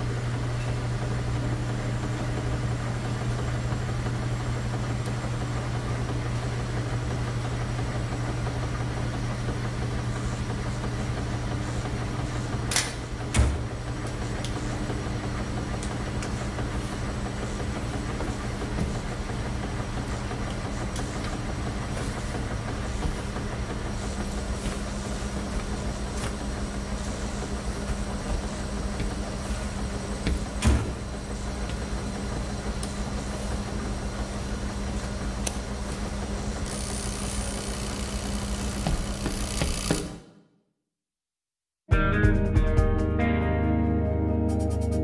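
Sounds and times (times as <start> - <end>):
washing machines rumbling: 0.0 - 40.3.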